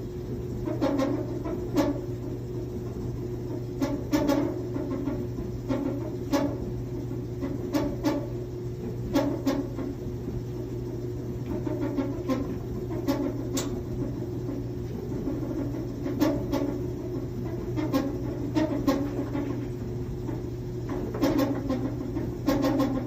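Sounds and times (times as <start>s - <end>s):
clothes dryer humming: 0.0s - 23.0s.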